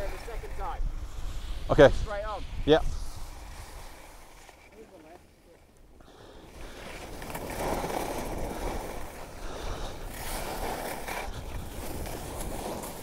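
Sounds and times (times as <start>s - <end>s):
wind buffeting microphone: 0.0s - 4.4s, 6.6s - 13.0s
skis scraping over snow: 0.0s - 13.0s.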